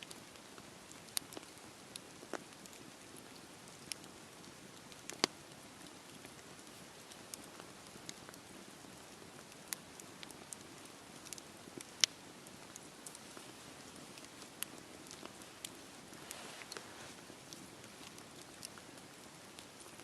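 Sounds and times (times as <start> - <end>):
campfire crackling and popping: 0.0 - 20.0
steady rain hiss: 0.0 - 20.0.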